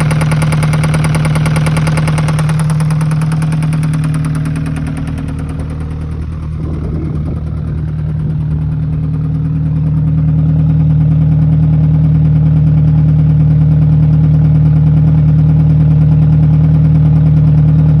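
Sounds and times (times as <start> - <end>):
car engine idling: 0.0 - 18.0
rapid engine knock: 0.0 - 18.0.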